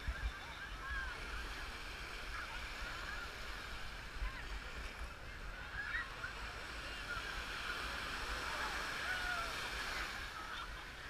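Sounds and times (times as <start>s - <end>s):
distant crowd voices and shouts: 0.0s - 11.0s
small waves washing ashore: 0.0s - 11.0s.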